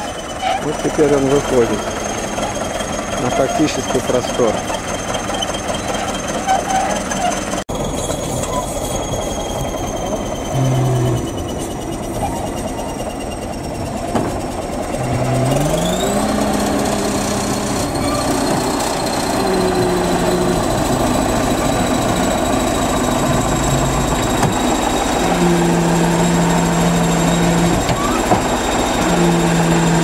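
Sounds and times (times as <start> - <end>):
bulldozer diesel engine revving: 0.0 - 30.0.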